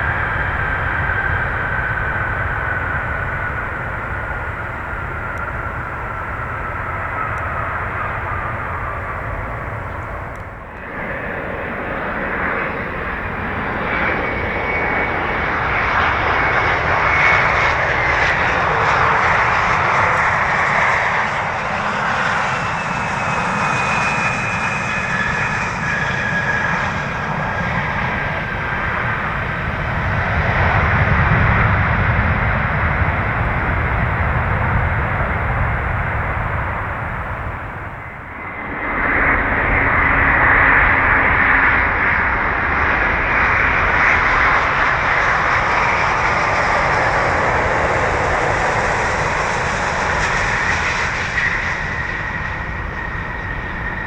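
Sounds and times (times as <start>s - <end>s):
jet engines whining: 0.0s - 54.0s
jet landing: 0.0s - 54.0s.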